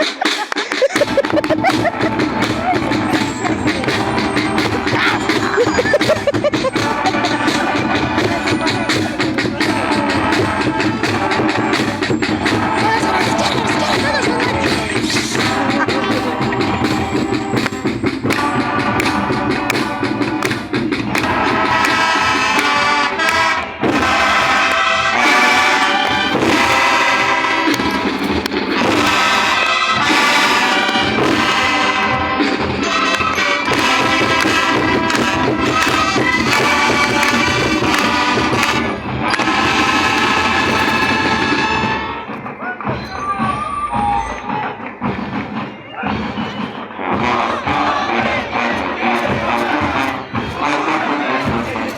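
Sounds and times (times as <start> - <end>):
band melody: 0.0 - 51.9
continuous percussion: 0.0 - 51.9.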